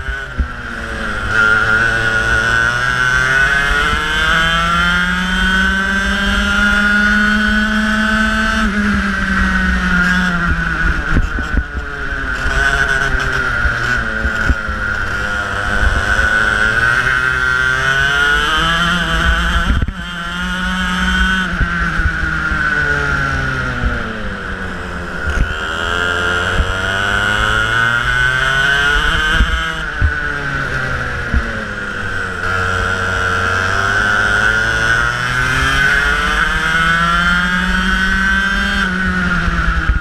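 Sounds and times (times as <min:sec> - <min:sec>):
kart engine revving: 0:00.0 - 0:40.0.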